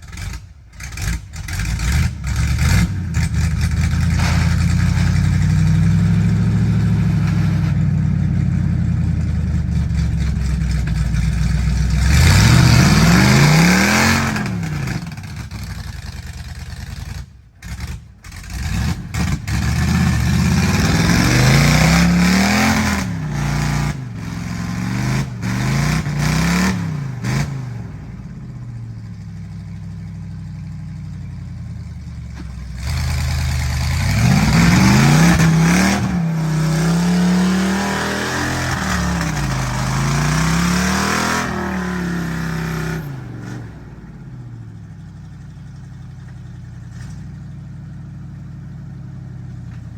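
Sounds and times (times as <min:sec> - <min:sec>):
truck engine revving hard: 0:00.0 - 0:28.7, 0:32.7 - 0:45.0.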